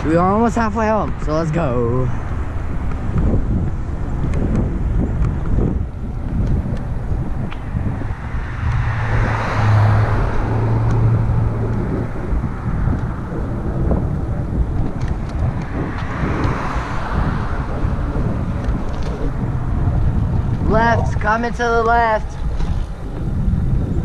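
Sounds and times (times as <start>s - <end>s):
motor traffic passing: 0.0s - 24.0s
wind rumbling on microphone: 0.0s - 24.0s.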